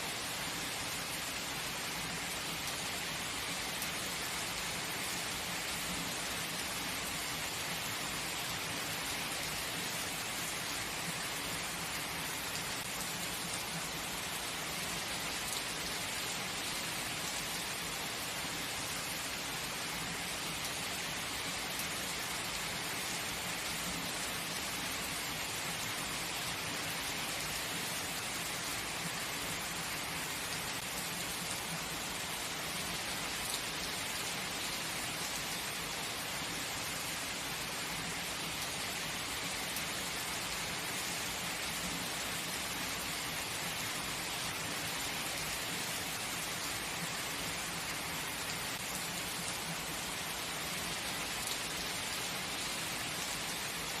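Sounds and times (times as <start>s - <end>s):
heavy rain falling: 0.1s - 54.0s.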